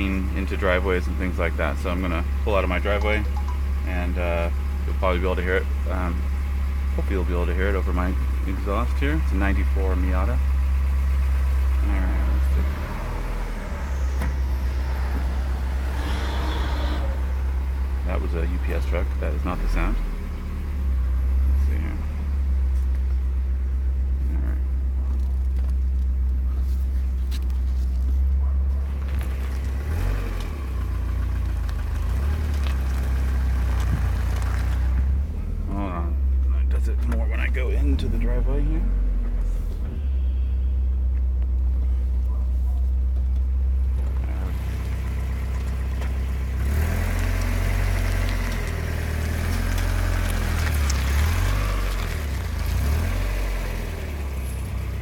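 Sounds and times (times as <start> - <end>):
car engine and exhaust running: 0.0 - 55.0.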